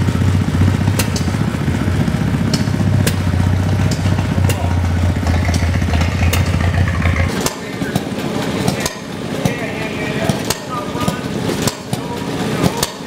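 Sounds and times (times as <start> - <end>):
antique engine running: 0.0 - 13.0.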